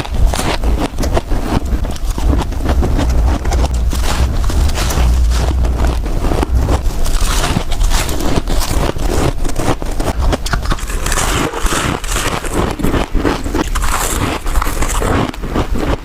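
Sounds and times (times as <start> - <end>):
ice crunching and scraping: 0.0 - 16.0.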